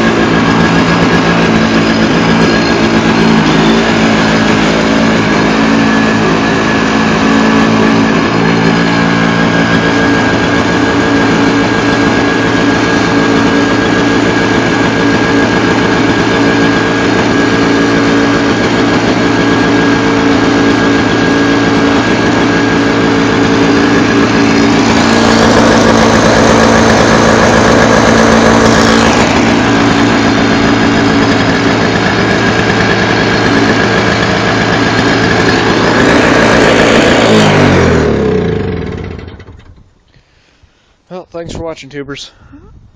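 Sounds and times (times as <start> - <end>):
snowblower engine running: 0.0 - 41.0.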